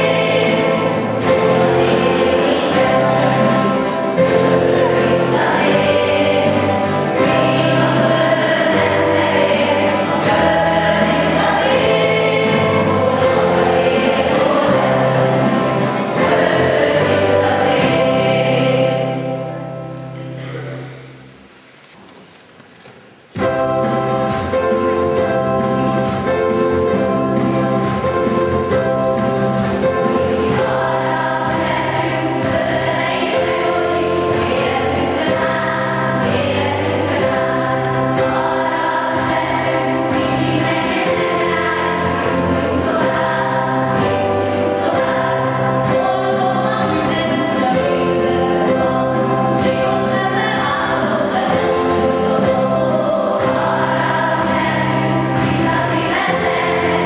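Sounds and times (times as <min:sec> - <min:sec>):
choir singing a slow song: 0:00.0 - 0:21.2, 0:23.4 - 0:57.0
instrumental accompaniment: 0:00.0 - 0:57.0.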